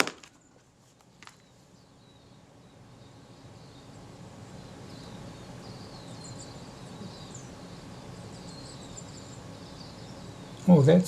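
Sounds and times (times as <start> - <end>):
low background noise: 0.0 - 11.0
small birds chirping faintly: 0.0 - 11.0.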